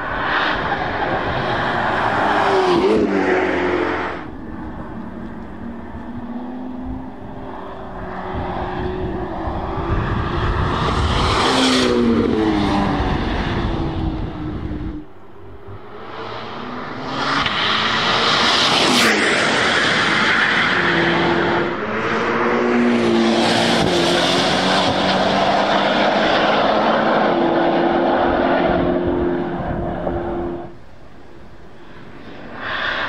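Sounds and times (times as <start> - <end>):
race car engine passing: 0.0 - 33.0.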